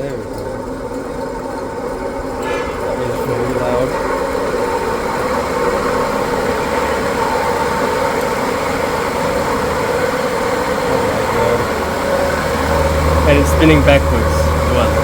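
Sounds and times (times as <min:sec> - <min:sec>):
exhaust fan humming: 0:00.0 - 0:15.0.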